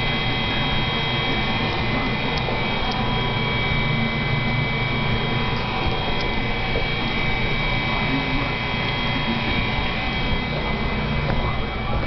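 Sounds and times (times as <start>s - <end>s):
fan rushing: 0.0s - 12.0s.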